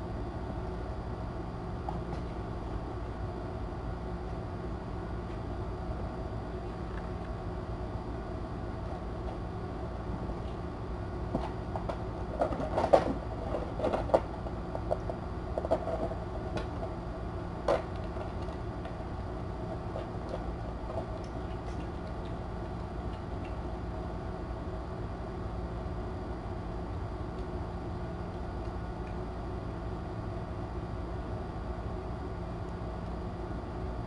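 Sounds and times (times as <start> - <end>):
room noise hum and hiss: 0.0 - 34.0.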